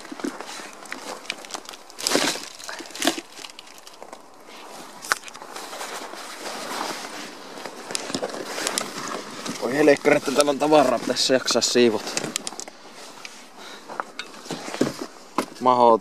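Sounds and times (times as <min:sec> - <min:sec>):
footsteps: 0:00.0 - 0:15.6
plastic bag rustling: 0:00.0 - 0:15.6.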